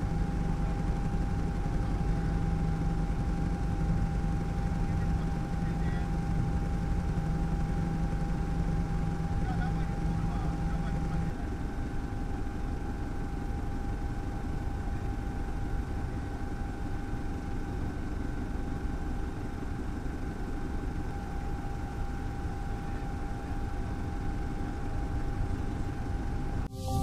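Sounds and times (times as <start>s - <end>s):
helicopter rotor rumble: 0.0s - 26.7s
high engine whine: 0.0s - 27.0s.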